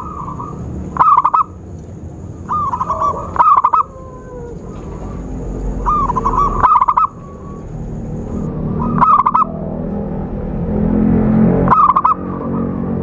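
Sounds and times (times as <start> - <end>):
dove cooing: 0.0 - 10.0, 11.7 - 12.6
steady low rumble: 0.0 - 13.0.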